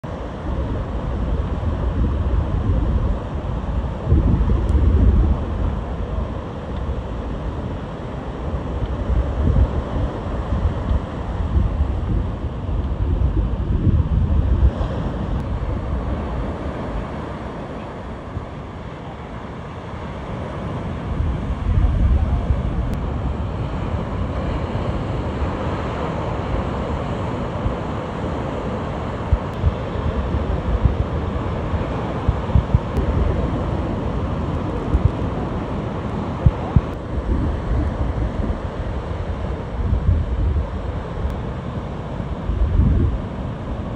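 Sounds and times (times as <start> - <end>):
heavy surf breaking on beach: 0.0 - 43.9
wind buffeting microphone: 0.2 - 18.6, 20.0 - 28.0, 28.9 - 43.9.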